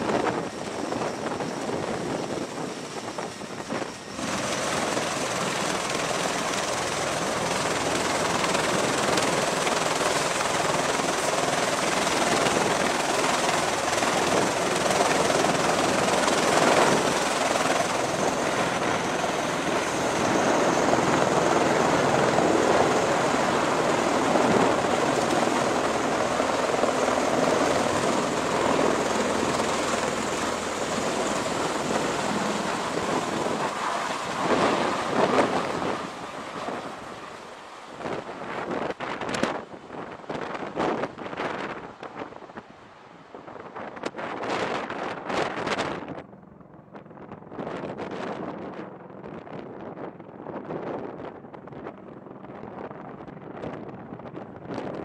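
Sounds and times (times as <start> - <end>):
aircraft rotor noise: 0.0 - 46.1.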